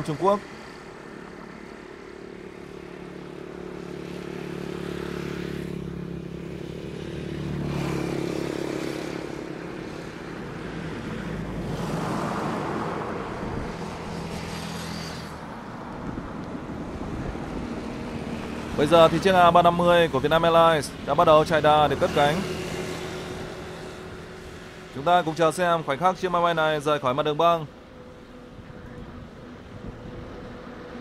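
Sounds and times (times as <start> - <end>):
low engine hum: 0.0 - 26.8.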